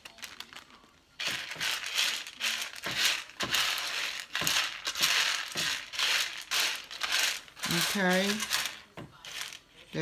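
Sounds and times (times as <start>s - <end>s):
dry beans rattling in a steel pan: 0.0s - 9.6s.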